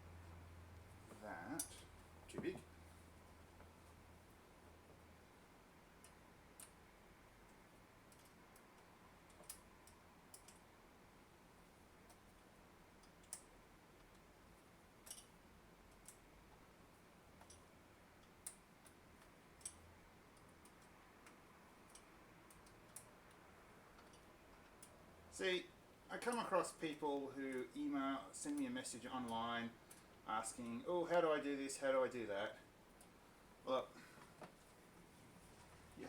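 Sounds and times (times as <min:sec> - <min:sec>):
faint small clicks of parts: 0:01.0 - 0:05.0, 0:05.8 - 0:25.3, 0:25.9 - 0:31.3, 0:32.8 - 0:33.2.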